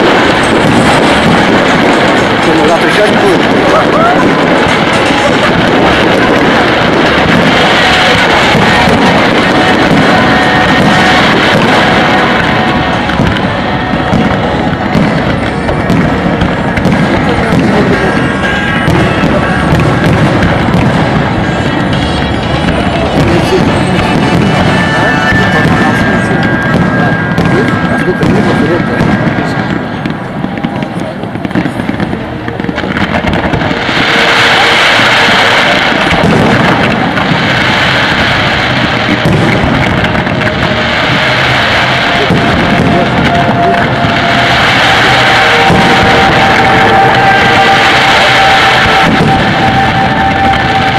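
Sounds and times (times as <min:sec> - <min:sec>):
loud music: 0:00.0 - 0:30.5, 0:31.2 - 0:50.9
fireworks bangs: 0:00.0 - 0:50.9.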